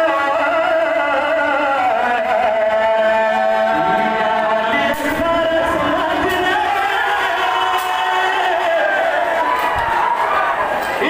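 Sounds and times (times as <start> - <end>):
man chanting: 0.0 - 9.3.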